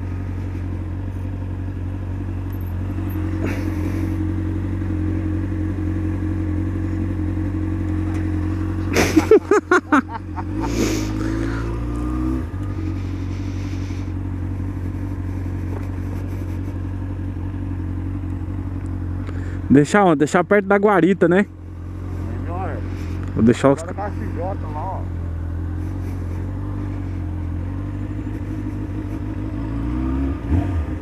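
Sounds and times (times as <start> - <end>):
motorcycle engine idling: 0.0 - 29.8.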